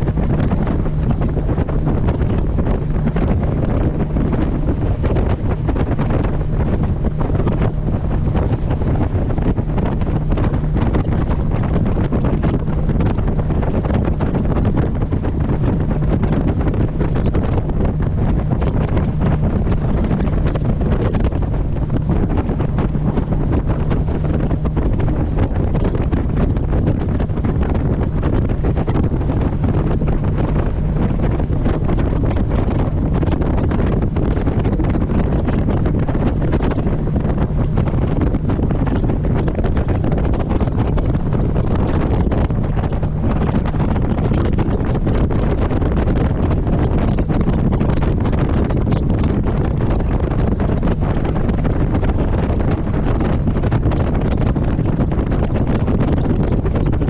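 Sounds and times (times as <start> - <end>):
boat engine drone: 0.0 - 57.0
water rushing along hull: 0.0 - 57.0
wind buffeting microphone: 0.0 - 57.0.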